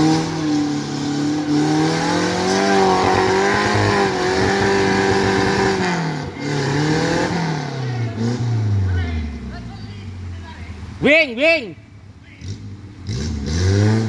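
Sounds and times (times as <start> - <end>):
off-road vehicle engine revving: 0.0 - 11.4, 12.3 - 14.0.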